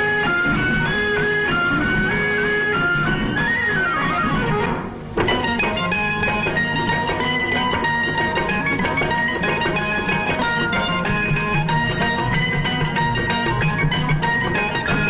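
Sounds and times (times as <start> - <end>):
plucked-string melody: 0.0 - 15.0.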